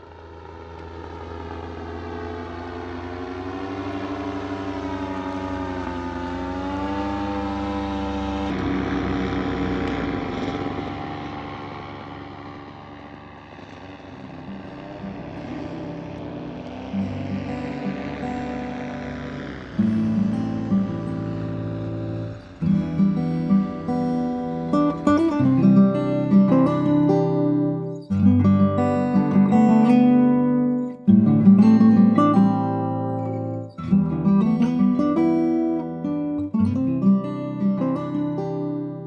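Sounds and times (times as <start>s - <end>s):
motor droning: 0.0s - 36.4s.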